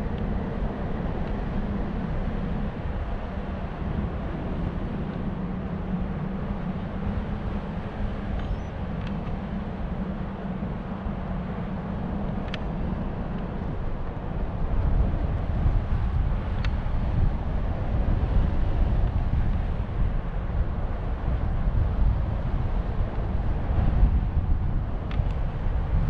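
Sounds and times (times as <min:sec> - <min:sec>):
wind rush on microphone: 0:00.0 - 0:26.0.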